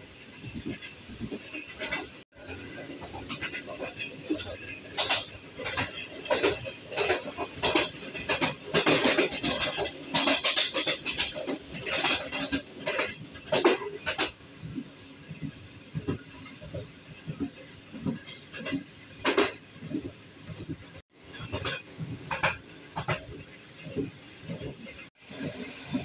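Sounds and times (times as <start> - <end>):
train rattling and clattering: 0.0 - 26.0.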